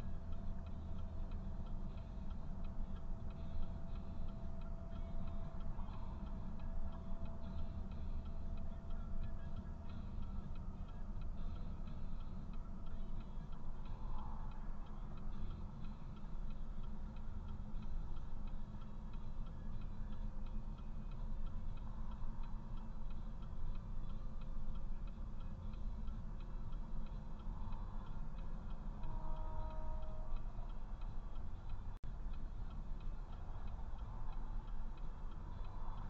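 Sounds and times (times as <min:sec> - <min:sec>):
car indicator ticking: 0:00.0 - 0:36.0
low steady rumble: 0:00.0 - 0:36.0.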